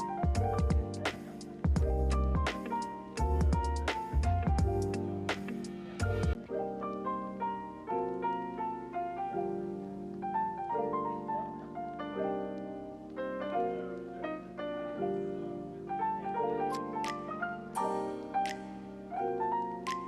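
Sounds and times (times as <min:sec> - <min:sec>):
light instrumental music: 0:00.0 - 0:20.0.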